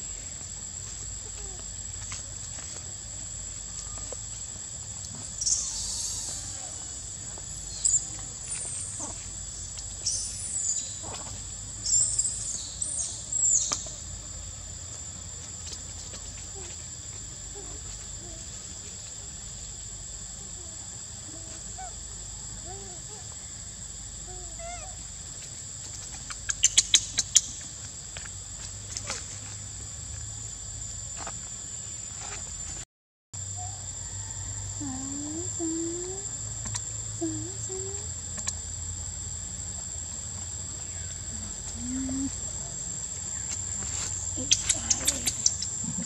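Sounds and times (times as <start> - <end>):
insects droning: 0.0 - 32.8, 33.4 - 46.0.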